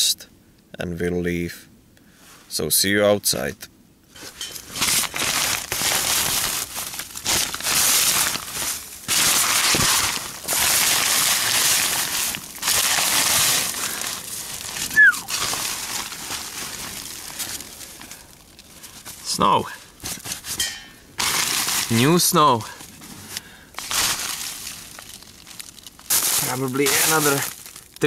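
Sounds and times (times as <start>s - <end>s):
plastic bags and tarp rustling: 4.1s - 28.0s.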